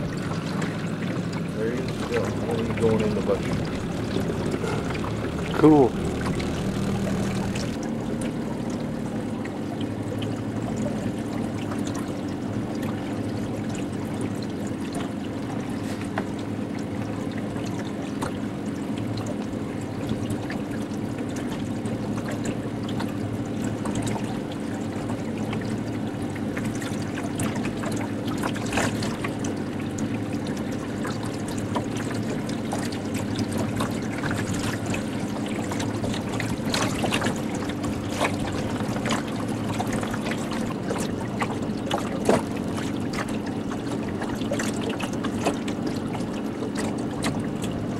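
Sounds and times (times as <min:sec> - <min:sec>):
outboard motor running: 0:00.0 - 0:47.9
water splashing against hull: 0:00.0 - 0:47.9.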